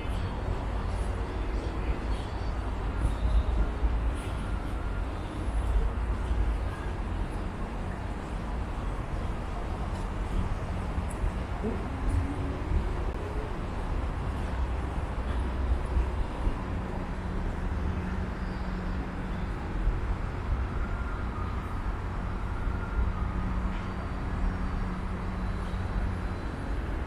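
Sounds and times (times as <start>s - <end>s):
distant city traffic rumble: 0.0s - 27.0s.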